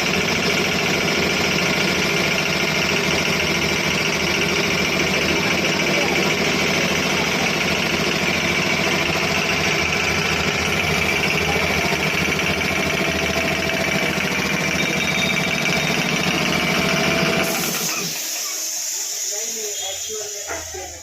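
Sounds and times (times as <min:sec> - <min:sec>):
air compressor running: 0:00.0 - 0:21.0.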